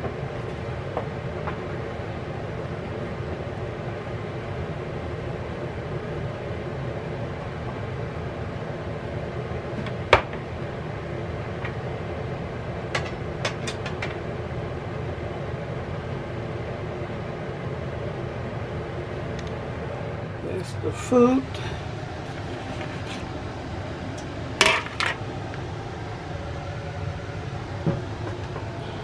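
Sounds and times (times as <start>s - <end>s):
kitchen fan humming: 0.0s - 29.0s.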